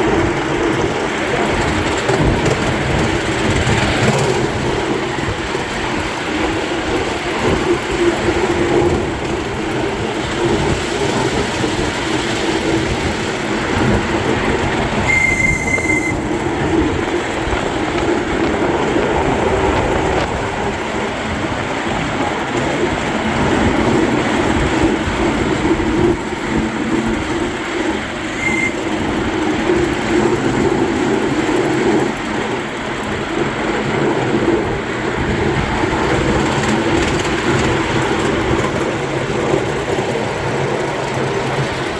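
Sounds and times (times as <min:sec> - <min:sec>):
miniature train wheels clattering: 0:00.0 - 0:41.9.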